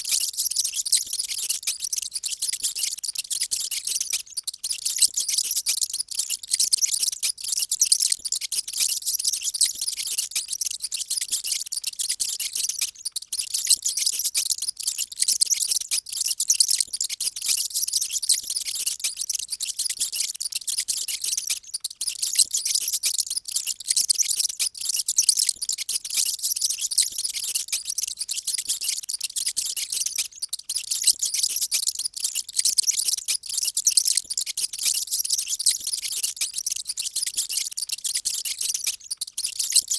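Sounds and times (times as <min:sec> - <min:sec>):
mice squeaking: 0:00.0 - 0:39.9.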